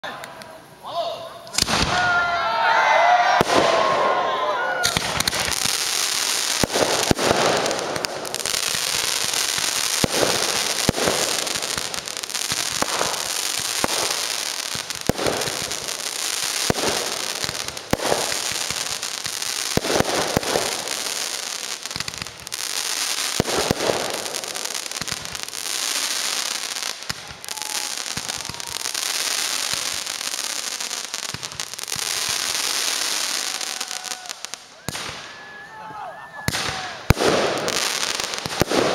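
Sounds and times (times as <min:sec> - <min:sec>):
fireworks crackling: 0:01.4 - 0:38.9.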